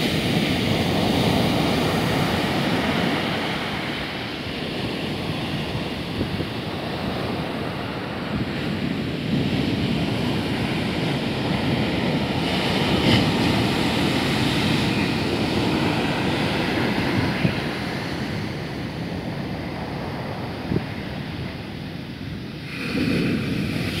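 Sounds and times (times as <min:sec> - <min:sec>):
sea surf breaking on beach: 0:00.0 - 0:24.0.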